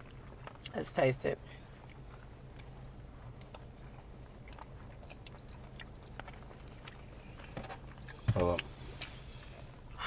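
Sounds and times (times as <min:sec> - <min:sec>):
wet chewing clicks: 0:00.0 - 0:00.8, 0:01.8 - 0:09.2
low steady hum: 0:00.0 - 0:10.0.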